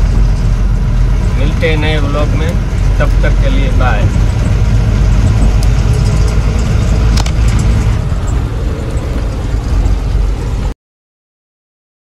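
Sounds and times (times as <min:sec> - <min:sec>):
truck engine and road rumble: 0:00.0 - 0:10.8.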